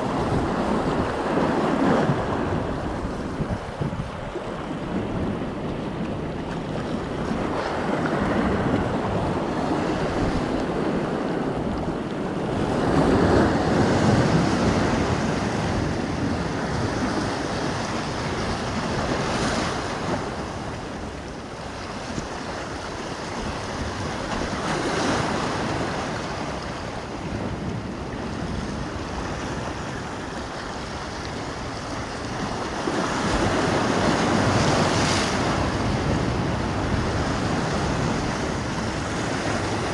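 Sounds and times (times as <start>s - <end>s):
waves breaking on rocks: 0.0s - 39.9s
wind buffeting microphone: 0.0s - 39.9s.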